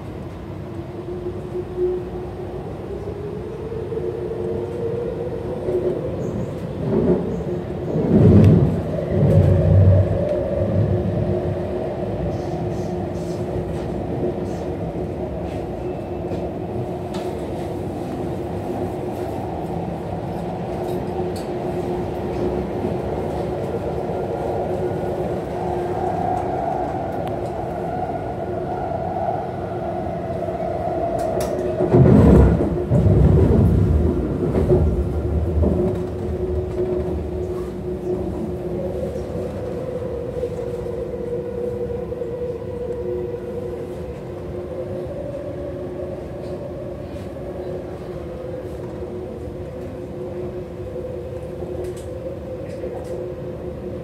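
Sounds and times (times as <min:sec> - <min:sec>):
train wheels rumbling on rail: 0:00.0 - 0:54.0
rushing rumble: 0:02.9 - 0:54.0.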